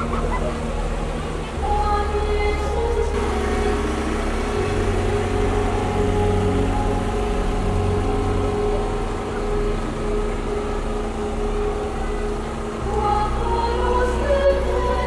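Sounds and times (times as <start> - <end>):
engine running low hum: 0.0 - 15.0
steady drone: 0.0 - 15.0.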